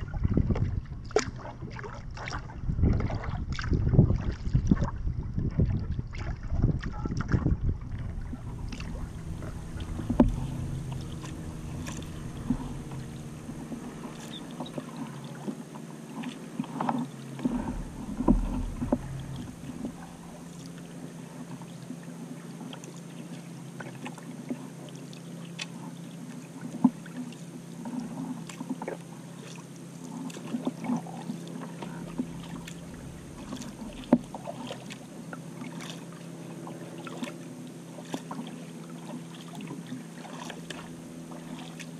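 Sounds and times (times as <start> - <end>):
low hum of water and air: 0.0 - 41.9
paddle splashing water: 0.0 - 41.9.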